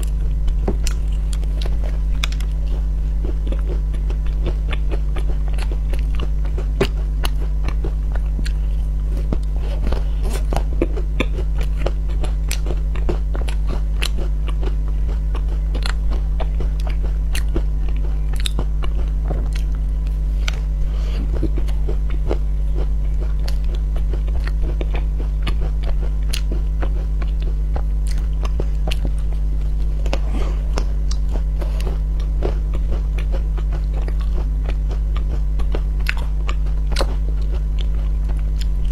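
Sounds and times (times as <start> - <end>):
crunchy chewing: 0.0 - 38.9
steady low hum: 0.0 - 38.9.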